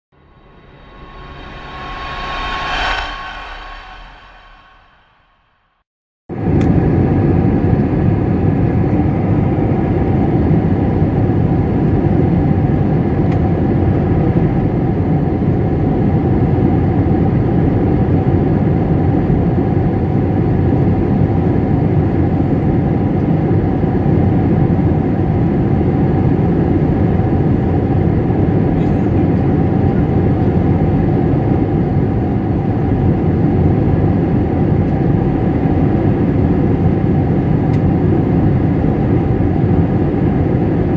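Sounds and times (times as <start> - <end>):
jet cabin engine rush: 0.2 - 5.5, 6.4 - 40.9.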